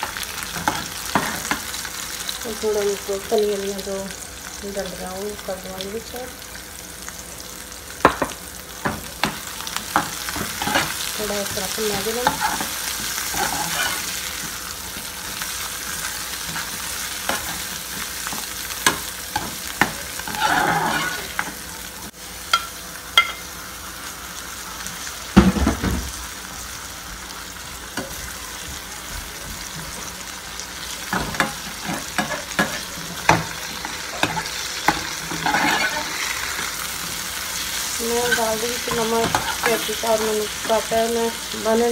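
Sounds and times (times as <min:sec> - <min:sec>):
masala sizzling in a pan: 0:00.0 - 0:41.9.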